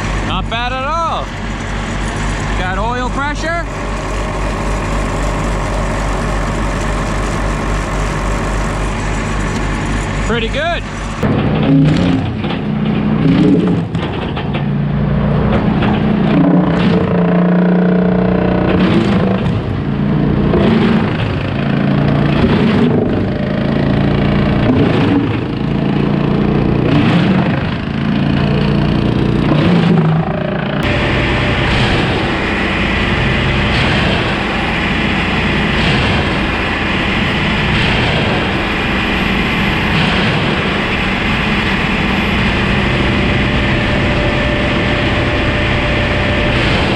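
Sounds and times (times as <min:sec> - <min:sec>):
wood chipper diesel engine running: 0:00.0 - 0:46.9.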